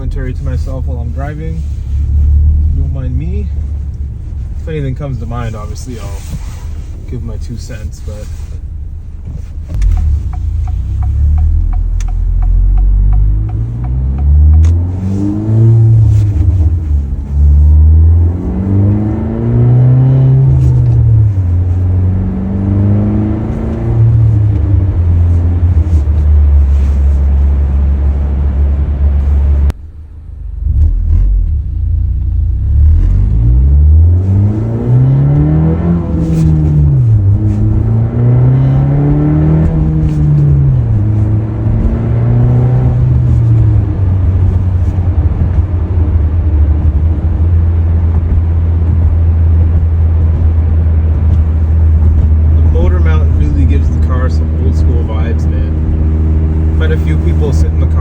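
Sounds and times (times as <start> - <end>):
car engine accelerating through gears: 9.2 - 58.0.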